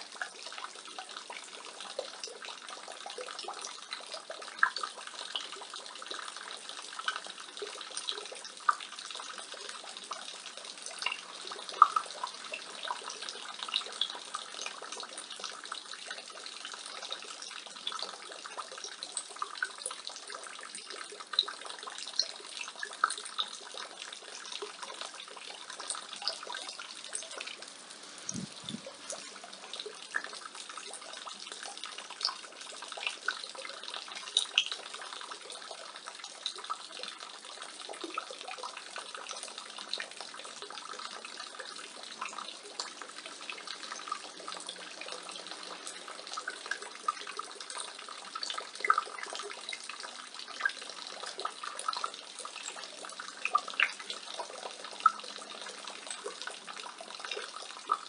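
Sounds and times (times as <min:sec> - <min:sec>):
rainwater pouring from gutter: 0:00.0 - 0:58.0.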